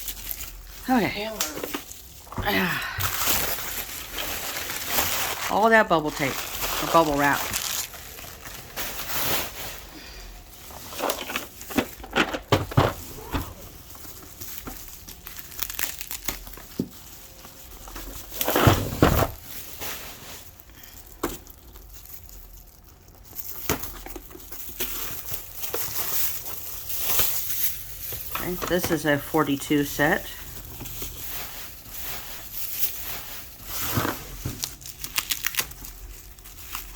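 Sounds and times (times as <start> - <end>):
bubble wrap crinkling: 0.0 - 36.9.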